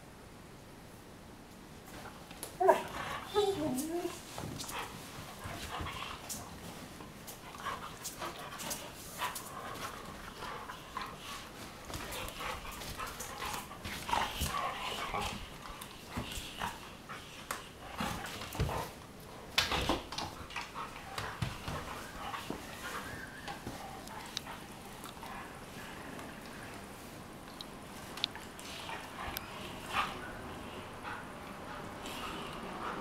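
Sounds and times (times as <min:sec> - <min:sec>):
dogs scuffling: 0:01.8 - 0:33.0.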